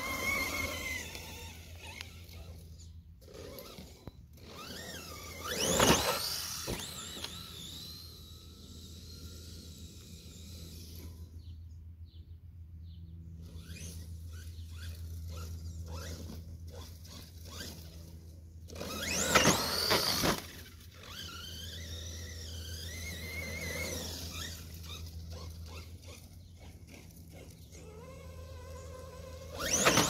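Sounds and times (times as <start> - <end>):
electric motor whining: 0.0 - 11.8, 13.2 - 30.0.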